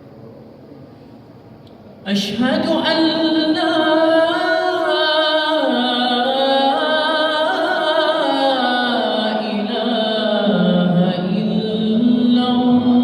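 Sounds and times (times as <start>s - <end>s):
man chanting call to prayer: 2.1s - 13.0s.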